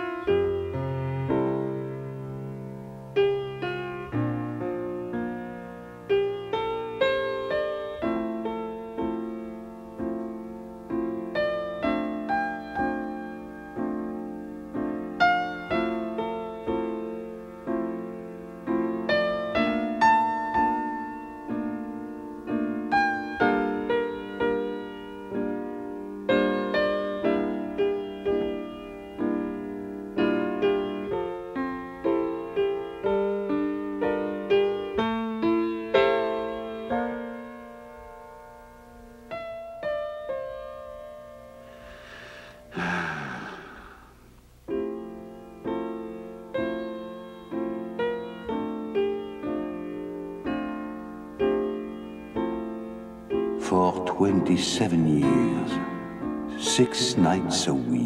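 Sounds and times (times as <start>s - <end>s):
solo piano playing slow tune: 0.0s - 58.0s.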